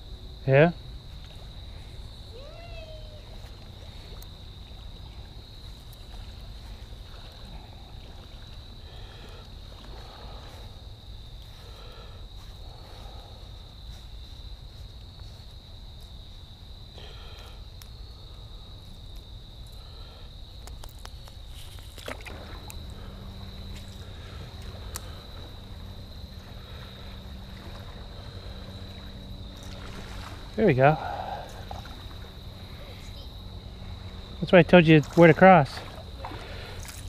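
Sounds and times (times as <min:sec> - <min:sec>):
low rumble of water: 0:00.0 - 0:17.0, 0:21.2 - 0:37.0
insects droning: 0:00.0 - 0:37.0
wind: 0:00.0 - 0:37.0.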